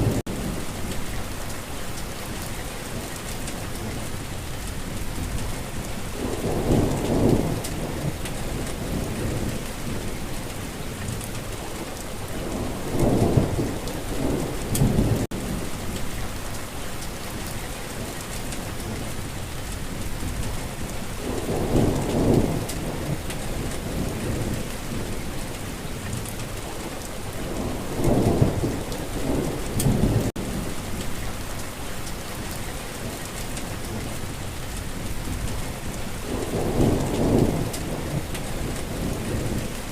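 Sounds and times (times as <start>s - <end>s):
steady rain falling: 0.0s - 39.9s
low rolling thunder: 2.3s - 16.6s, 17.2s - 39.9s.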